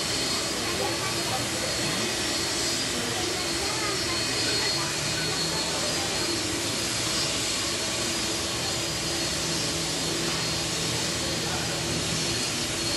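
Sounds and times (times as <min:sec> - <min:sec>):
jet engines running: 0:00.0 - 0:12.9.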